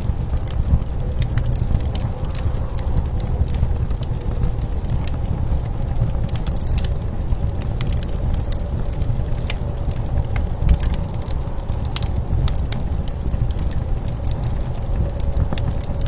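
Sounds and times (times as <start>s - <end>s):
deep rumble of wind: 0.0s - 16.0s
wood fire crackling: 0.0s - 16.0s.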